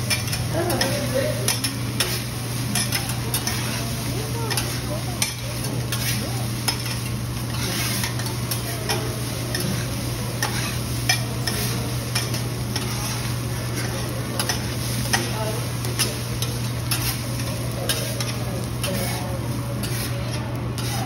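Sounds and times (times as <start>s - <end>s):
rice sizzling on griddle: 0.0s - 21.0s
metal spatulas scraping and clacking: 0.1s - 3.9s, 4.5s - 15.3s, 15.9s - 21.0s.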